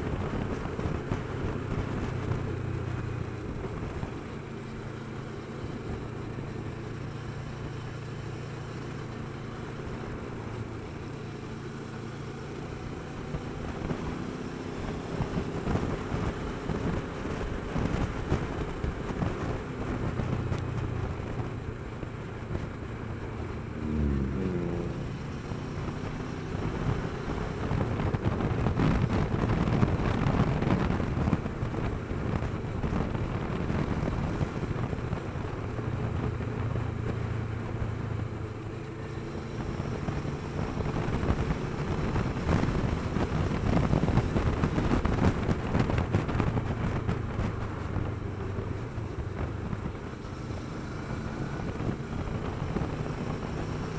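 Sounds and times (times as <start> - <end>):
wind rush on microphone: 0.0 - 4.3, 13.1 - 23.0, 23.6 - 53.9
motorcycle engine running: 0.0 - 53.9.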